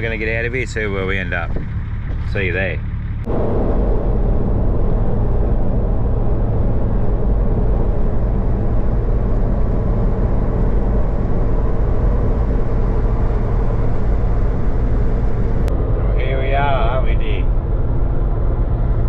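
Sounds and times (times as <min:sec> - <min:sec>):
car engine drone: 0:00.0 - 0:19.0
tyre and road noise: 0:00.0 - 0:19.0.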